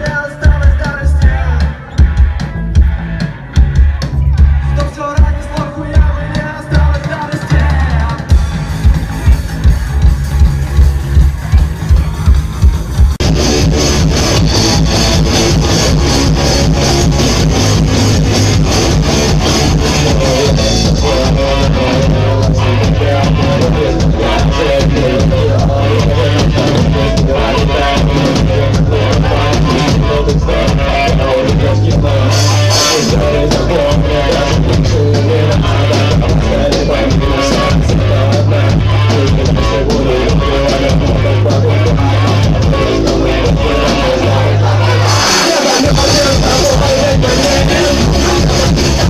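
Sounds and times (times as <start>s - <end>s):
bass guitar: 0.0s - 49.0s
rock band playing live: 0.0s - 49.0s
strummed electric guitars: 0.0s - 49.0s.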